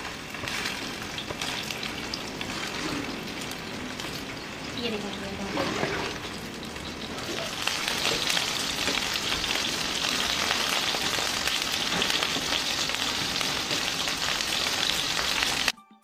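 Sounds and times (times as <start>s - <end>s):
meatballs sizzling in oil: 0.0s - 15.7s.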